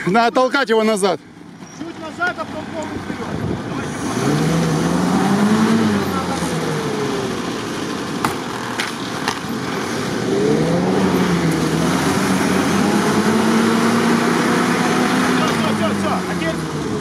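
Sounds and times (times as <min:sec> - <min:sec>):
engine revving under load: 0:02.4 - 0:17.0.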